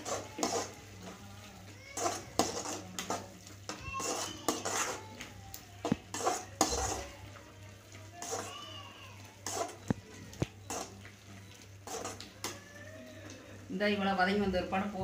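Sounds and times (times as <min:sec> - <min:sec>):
metal spatula scraping a pot: 0:00.0 - 0:12.6.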